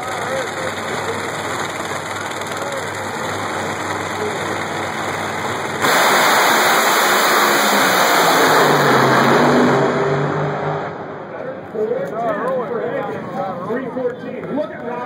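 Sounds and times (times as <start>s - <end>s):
drag racing cars roaring: 0.0s - 14.9s.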